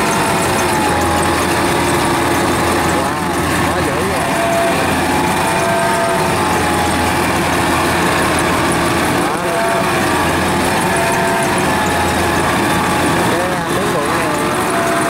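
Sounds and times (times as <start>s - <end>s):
combine harvester engine running: 0.0s - 15.0s.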